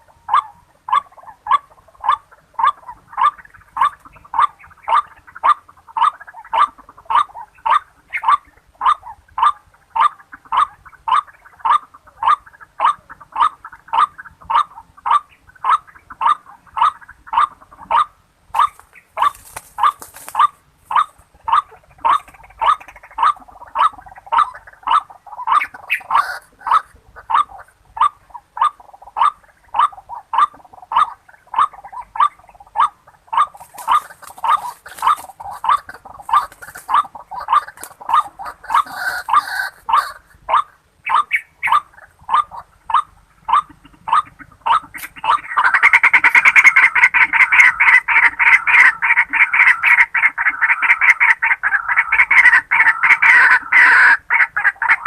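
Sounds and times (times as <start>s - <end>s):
harsh bird calls: 2.0s - 55.0s.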